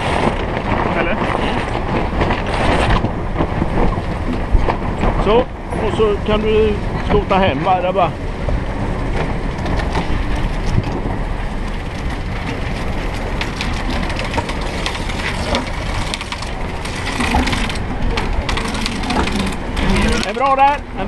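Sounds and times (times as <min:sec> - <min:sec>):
water rushing: 0:00.0 - 0:21.0
wind: 0:00.0 - 0:21.0.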